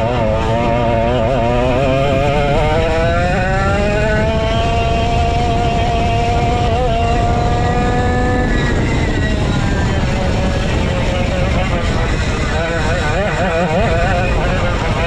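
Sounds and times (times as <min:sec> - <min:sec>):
kart engine accelerating: 0:00.0 - 0:15.0.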